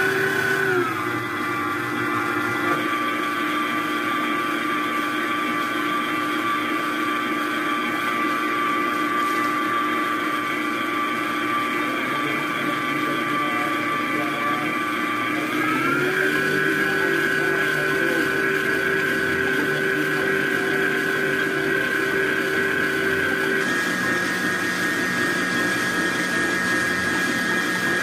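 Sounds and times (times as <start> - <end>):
stand mixer motor whining: 0.0 - 28.0
whisk beating in metal bowl: 0.0 - 28.0.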